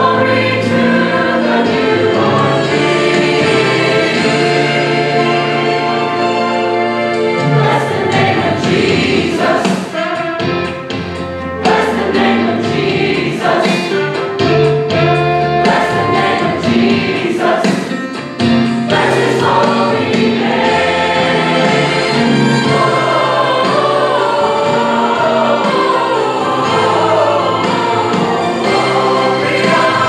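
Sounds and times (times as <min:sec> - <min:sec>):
mixed choir singing in harmony: 0:00.0 - 0:30.0.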